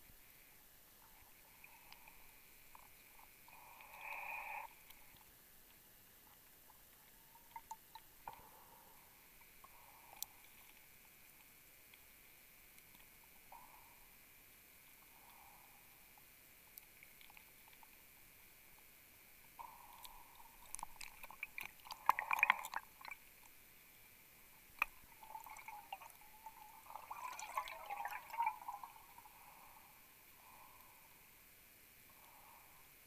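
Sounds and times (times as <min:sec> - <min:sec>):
underwater bubbling and gurgling: 0:00.1 - 0:23.7, 0:24.5 - 0:31.3.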